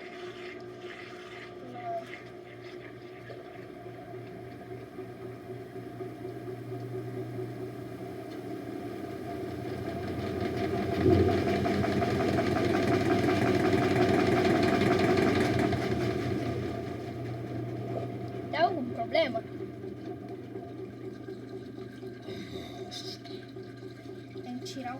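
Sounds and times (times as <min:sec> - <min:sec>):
washing machine spinning: 0:00.0 - 0:24.9.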